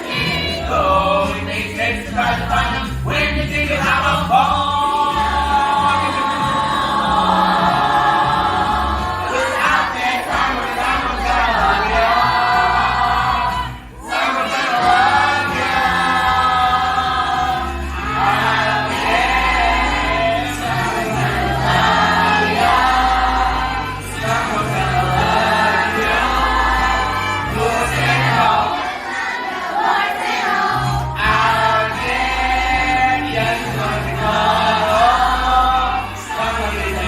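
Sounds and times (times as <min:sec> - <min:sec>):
instrumental accompaniment: 0:00.0 - 0:37.0
voices singing together: 0:00.0 - 0:37.0.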